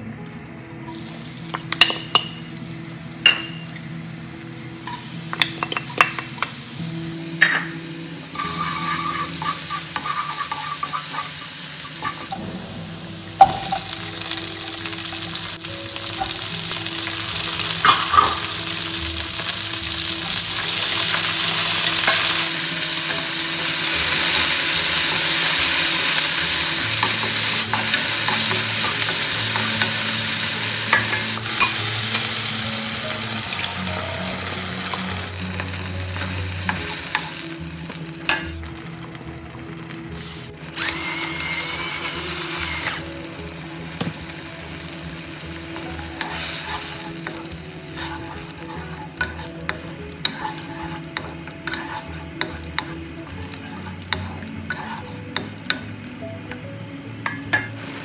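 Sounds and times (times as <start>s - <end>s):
vegetables sizzling in oil: 0.8s - 58.0s.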